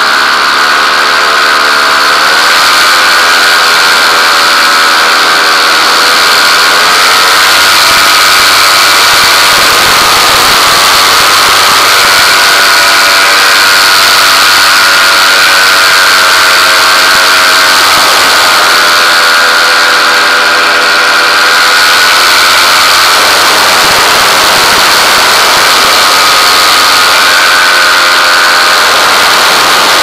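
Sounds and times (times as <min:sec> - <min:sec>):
high steady whine: 0:00.0 - 0:30.0
small engine running: 0:00.0 - 0:30.0.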